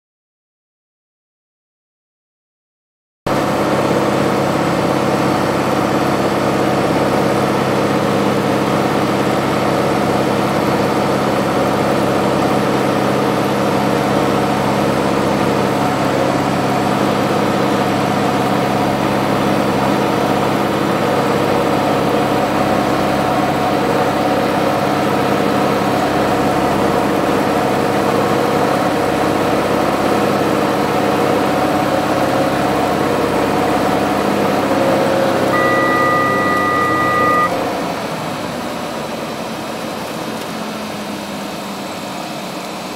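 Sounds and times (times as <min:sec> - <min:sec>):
aircraft engine drone in cockpit: 0:03.3 - 0:42.9.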